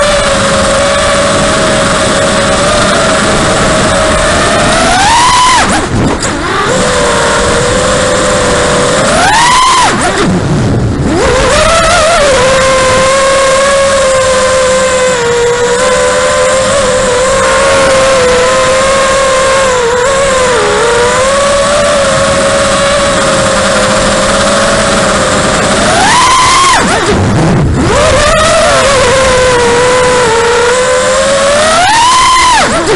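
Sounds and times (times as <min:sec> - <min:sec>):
drone motors whining: 0:00.0 - 0:32.9.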